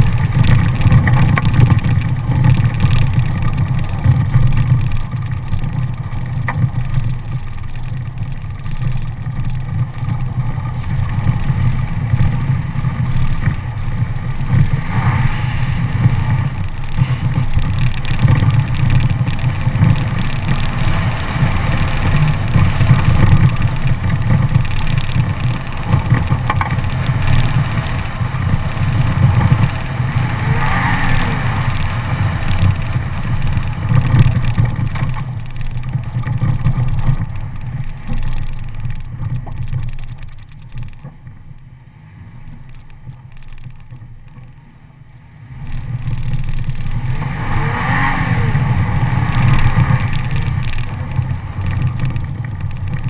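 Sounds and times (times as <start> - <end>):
tyres on gravel: 0.0 - 41.7, 45.5 - 53.0
truck engine rumble: 0.0 - 53.0.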